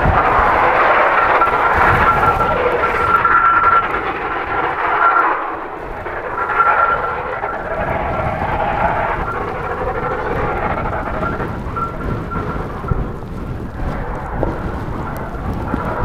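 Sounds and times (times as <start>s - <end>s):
blizzard wind roaring and whistling: 0.0s - 16.0s
wind buffeting microphone: 0.0s - 16.0s.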